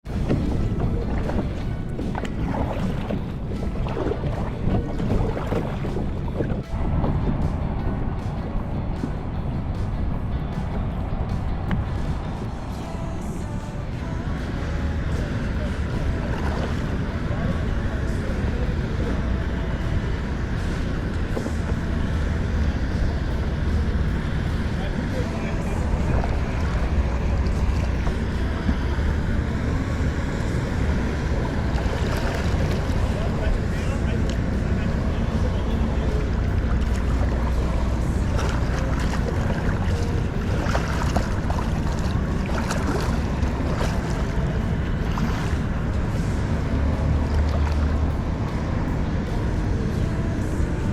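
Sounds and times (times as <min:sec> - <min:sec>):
water washing around kayak: 0:00.0 - 0:50.9
wind buffeting microphone: 0:00.0 - 0:50.9.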